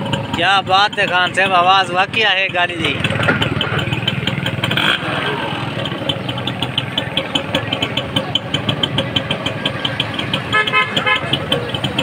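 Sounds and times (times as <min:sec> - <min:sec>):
light regular ticking: 0:00.0 - 0:05.0, 0:05.6 - 0:12.0
motorcycle engine idling: 0:00.0 - 0:12.0.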